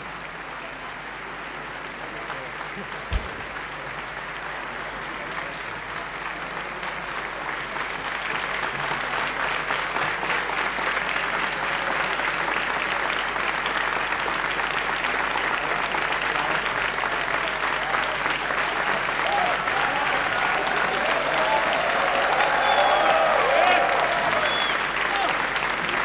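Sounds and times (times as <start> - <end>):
audience applause: 0.0 - 26.0.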